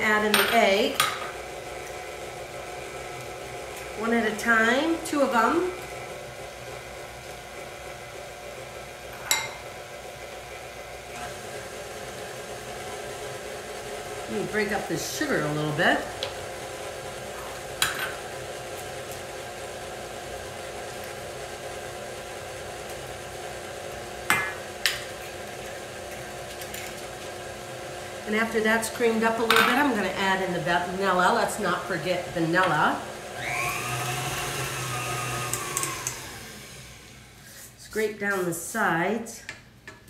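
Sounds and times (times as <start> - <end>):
stand mixer running: 1.0 - 37.7.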